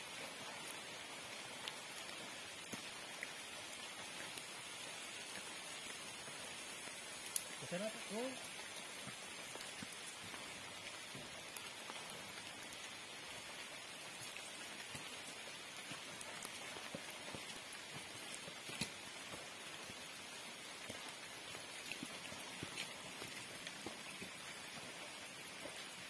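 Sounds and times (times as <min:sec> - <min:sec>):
heavy rain hissing: 0:00.0 - 0:26.0
raindrop ticks: 0:00.1 - 0:26.0.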